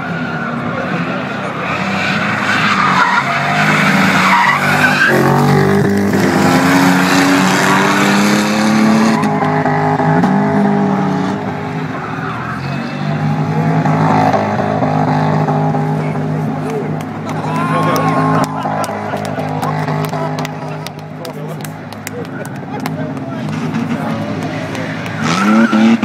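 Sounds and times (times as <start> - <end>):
car engines revving: 0.0 - 26.0
tyres skidding and squealing: 0.0 - 26.0.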